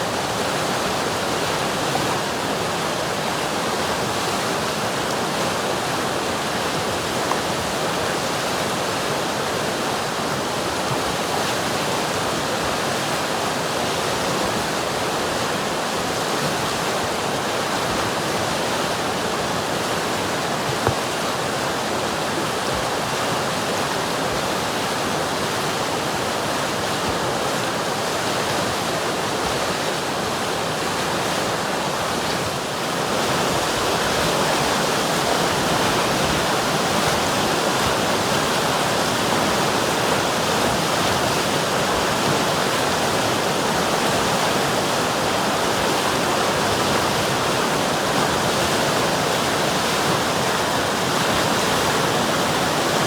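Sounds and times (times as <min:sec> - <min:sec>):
river water flowing: 0:00.0 - 0:53.0.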